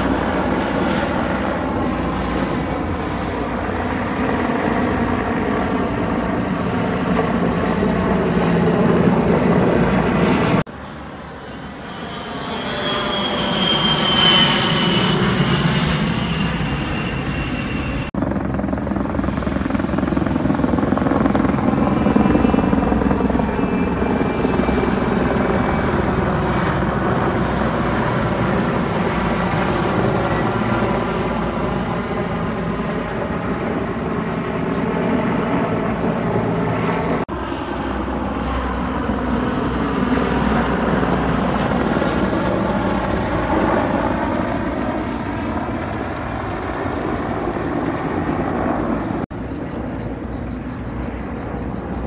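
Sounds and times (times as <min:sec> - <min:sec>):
helicopter rotor and turbine drone: 0:00.0 - 0:52.0.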